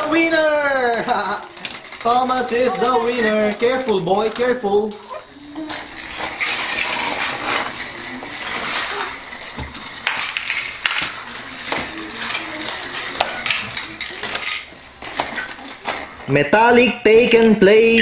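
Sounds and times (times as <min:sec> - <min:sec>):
plastic toy trains clattering: 0:00.0 - 0:16.3.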